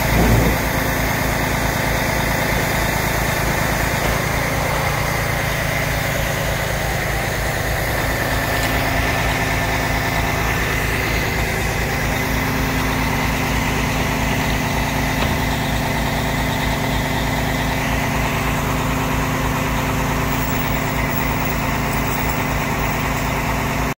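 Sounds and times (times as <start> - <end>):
forklift engine running: 0.0 - 24.0.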